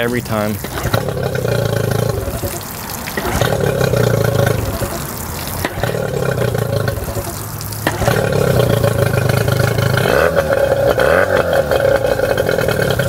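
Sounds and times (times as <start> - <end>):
outboard motor running: 0.0 - 13.0
water splashing on pavement: 0.0 - 13.0.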